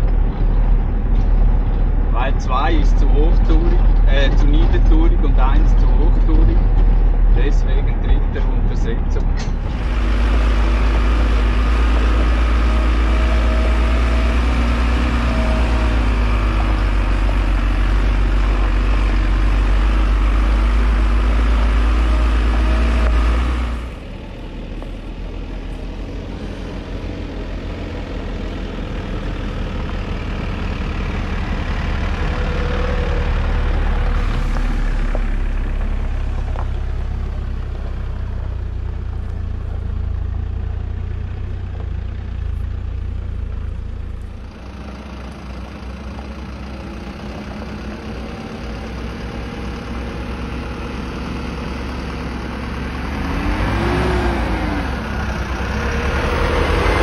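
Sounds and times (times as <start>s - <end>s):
diesel truck engine drone: 0.0s - 57.0s
tyres on gravel: 0.0s - 57.0s.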